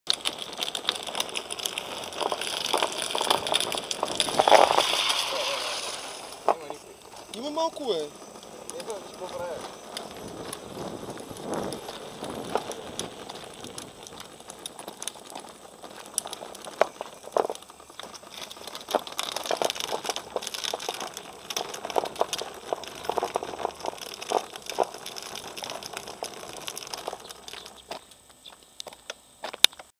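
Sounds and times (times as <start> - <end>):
hard wheels skidding on asphalt: 0.1 - 28.5.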